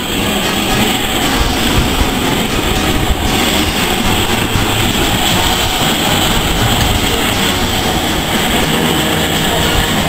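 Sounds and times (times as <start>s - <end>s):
steam locomotive hiss and rumble: 0.0s - 10.0s.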